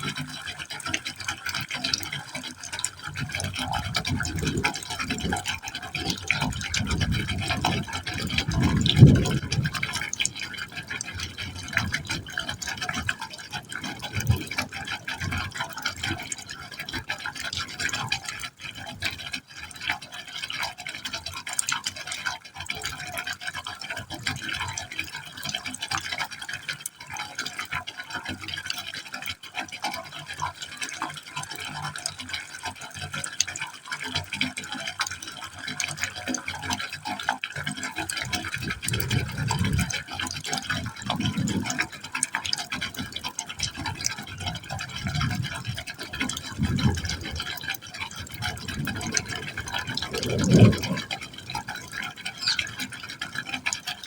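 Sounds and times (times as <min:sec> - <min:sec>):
water splashing and gurgling in pipe: 0:00.0 - 0:54.0.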